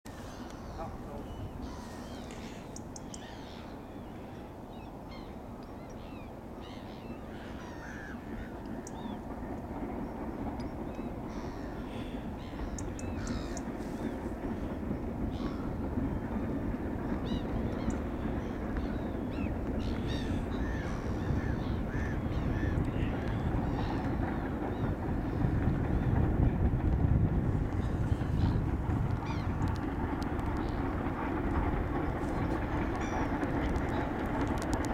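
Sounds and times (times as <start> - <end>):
gulls and ducks calling: 0.2 - 9.5, 10.9 - 26.2, 27.7 - 29.7, 32.0 - 34.2
low background rumble: 0.3 - 34.9.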